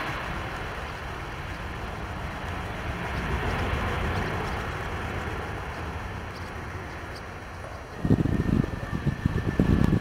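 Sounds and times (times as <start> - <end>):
jet engines roaring: 0.0 - 10.0
wind buffeting microphone: 0.0 - 10.0.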